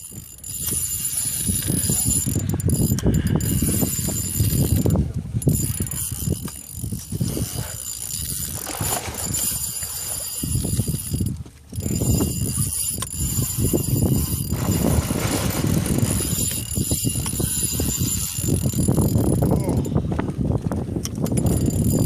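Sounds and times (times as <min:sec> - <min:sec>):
fishing reel ticking: 0:00.0 - 0:20.0, 0:21.0 - 0:22.0.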